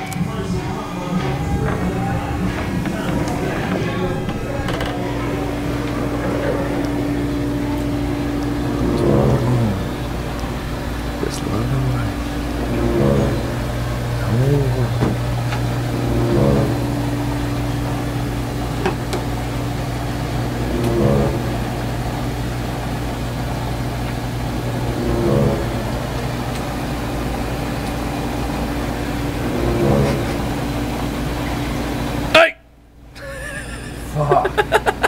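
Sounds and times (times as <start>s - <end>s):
churning water: 0.0s - 32.3s
hot tub pump humming: 0.0s - 35.0s.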